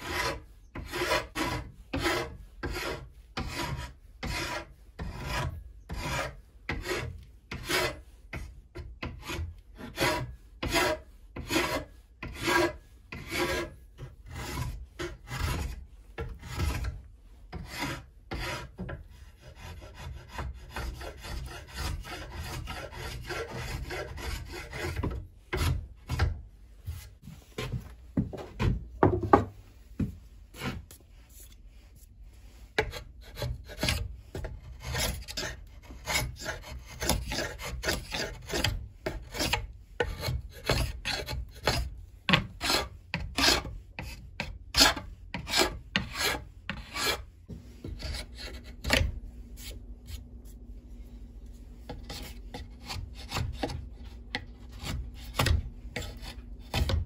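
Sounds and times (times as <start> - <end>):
rasp scraping wood: 0.0 - 27.8, 30.5 - 50.3, 51.9 - 57.0.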